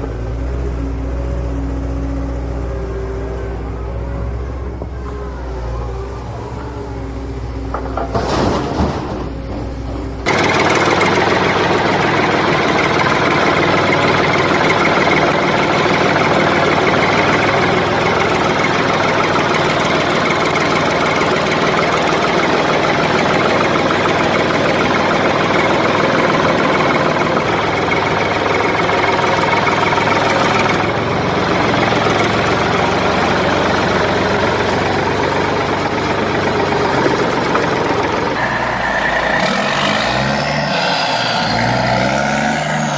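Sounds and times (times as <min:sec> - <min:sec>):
rattling engine: 0:00.0 - 0:42.9.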